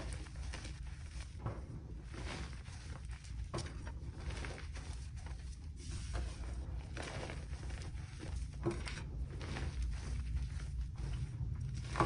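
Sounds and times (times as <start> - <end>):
hands patting loose powder: 0.0 - 12.0.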